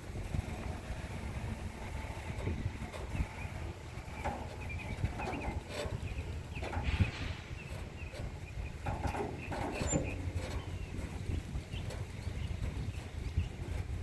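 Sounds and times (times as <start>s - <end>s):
wind rumble on microphone: 0.0s - 14.0s
small birds chirping: 1.7s - 14.0s.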